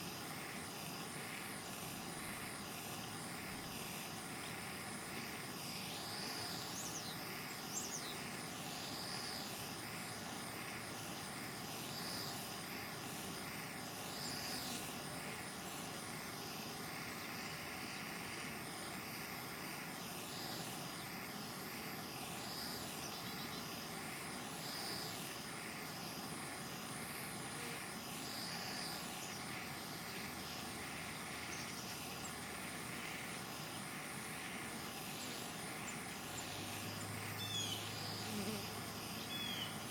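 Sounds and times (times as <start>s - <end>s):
propane torch hissing roar: 0.0s - 39.9s.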